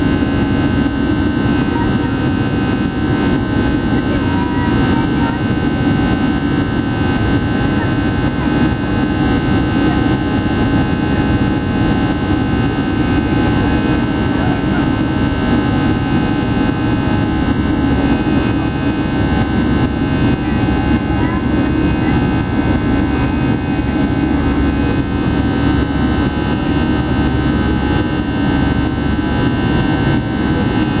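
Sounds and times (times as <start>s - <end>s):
jet engine roar in cabin: 0.0s - 31.0s
steady whining tones: 0.0s - 31.0s.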